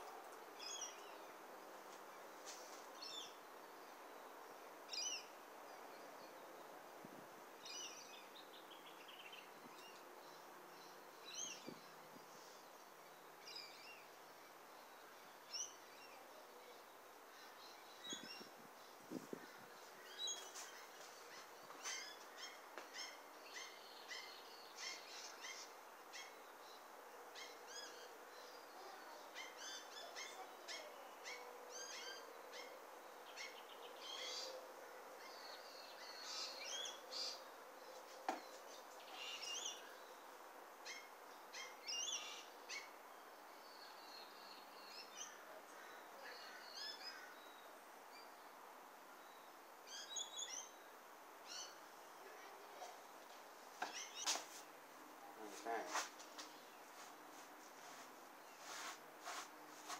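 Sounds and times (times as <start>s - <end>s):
faint outdoor background noise: 0.0s - 59.9s
small birds chirping: 7.6s - 34.6s, 35.2s - 59.9s.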